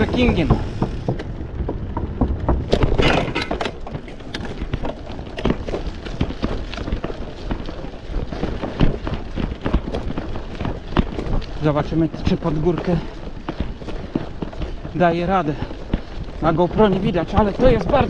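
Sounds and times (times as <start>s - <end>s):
bike rattling over bumps: 0.0s - 18.0s
low rumble: 0.0s - 18.0s.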